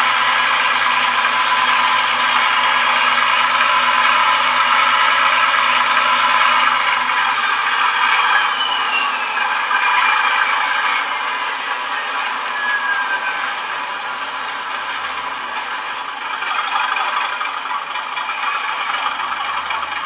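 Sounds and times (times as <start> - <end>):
thin falling squeal: 0.0 - 17.8
model locomotive diesel engine sound: 0.0 - 20.0
model motor and gears whirring: 0.0 - 20.0.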